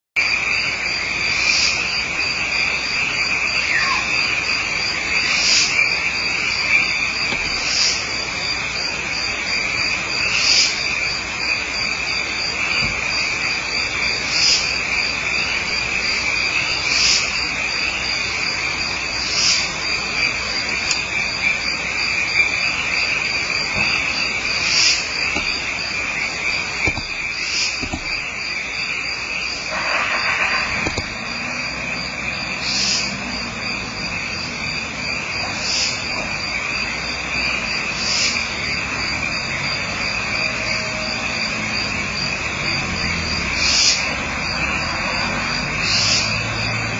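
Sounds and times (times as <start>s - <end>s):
crickets trilling: 0.2s - 46.9s.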